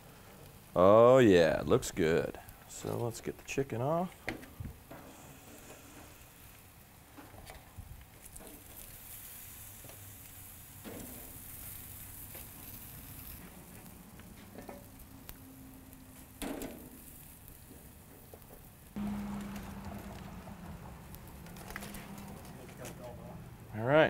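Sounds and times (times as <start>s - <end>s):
food sizzling on a grill: 0.0s - 4.0s, 4.6s - 23.0s.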